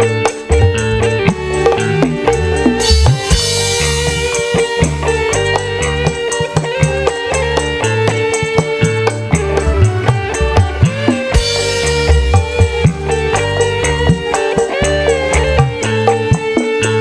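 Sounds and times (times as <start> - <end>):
band music over pa system: 0.0 - 17.0.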